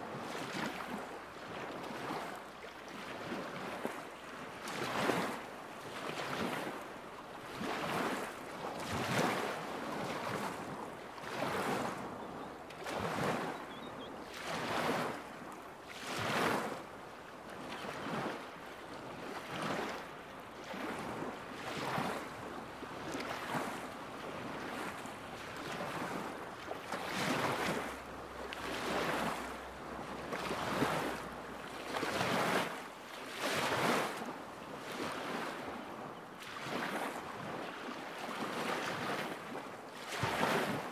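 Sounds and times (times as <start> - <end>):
small waves lapping: 0.0 - 40.9.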